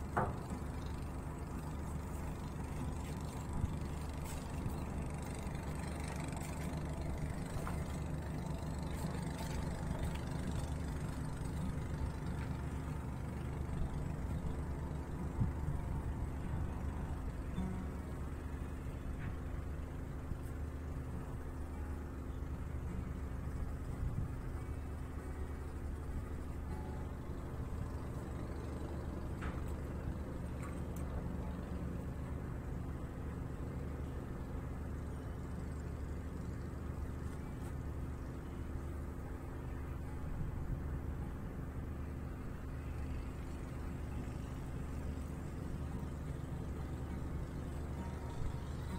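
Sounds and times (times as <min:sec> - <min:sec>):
boat engine humming: 0:00.0 - 0:48.9.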